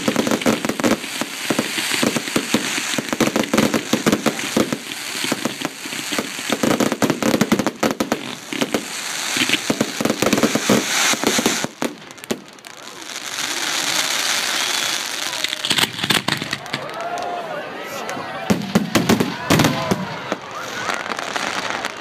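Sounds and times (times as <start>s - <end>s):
fireworks bangs and crackles: 0.0s - 17.4s, 18.1s - 22.0s.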